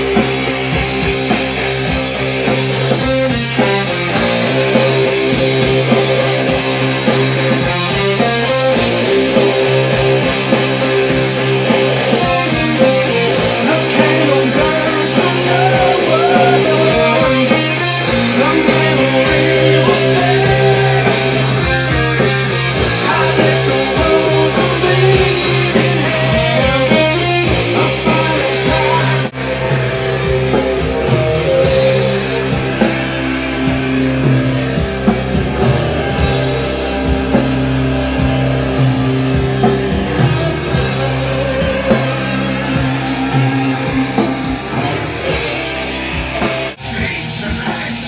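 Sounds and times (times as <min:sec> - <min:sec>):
loud guitar rock music: 0:00.0 - 0:48.0.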